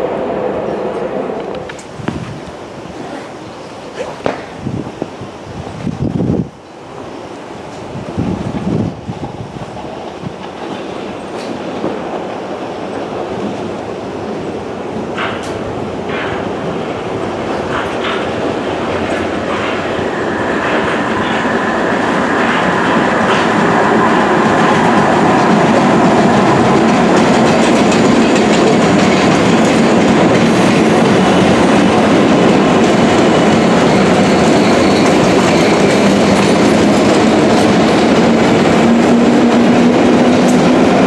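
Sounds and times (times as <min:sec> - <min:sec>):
train running past: 0:00.0 - 0:41.0.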